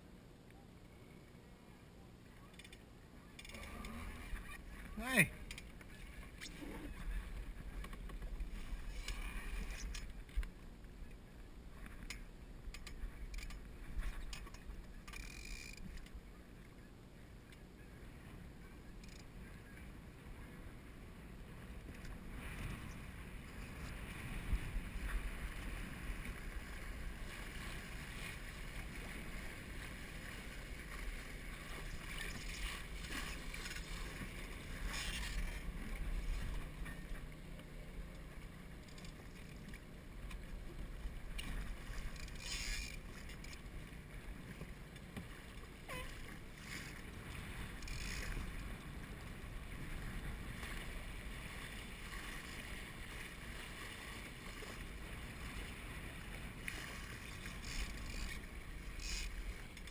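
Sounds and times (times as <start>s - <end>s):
water splashing along hull: 0.0s - 59.9s.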